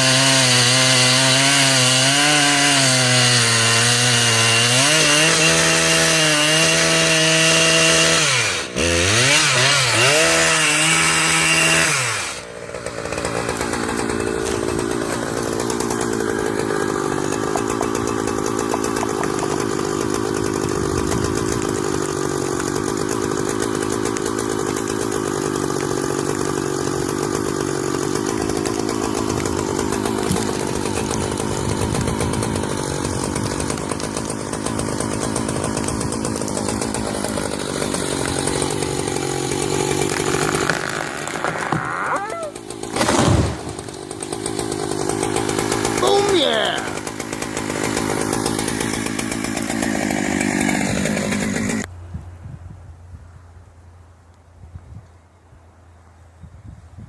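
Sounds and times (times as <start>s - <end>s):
chainsaw running at high revs: 0.0s - 51.9s
rough chainsaw idling: 0.0s - 51.9s.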